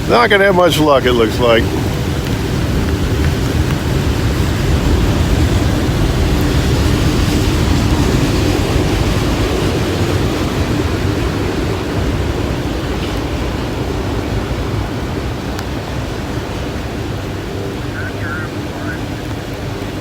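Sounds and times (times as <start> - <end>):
heavy rain: 0.0 - 20.0
train wheels rumbling on rail: 0.0 - 20.0.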